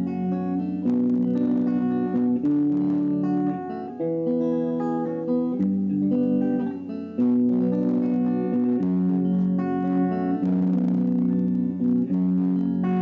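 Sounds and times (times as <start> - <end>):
clean electric guitar arpeggios: 0.0 - 13.0.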